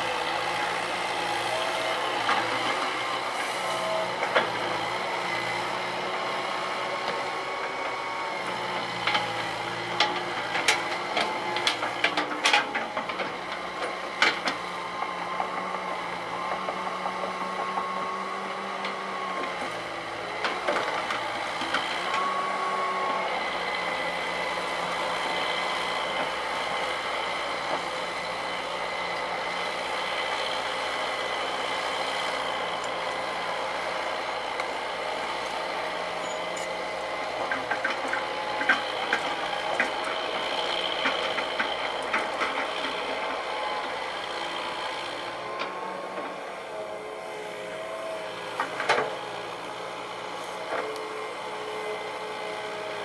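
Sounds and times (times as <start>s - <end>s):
excavator engine and hydraulics: 0.0s - 53.0s.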